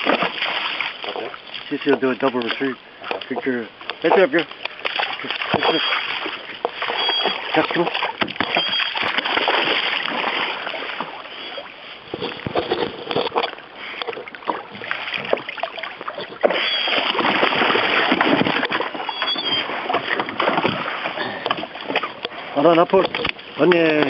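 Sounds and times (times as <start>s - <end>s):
knocks and rustles in a canoe: 0.0s - 24.0s
splashing in shallow water: 0.0s - 24.0s.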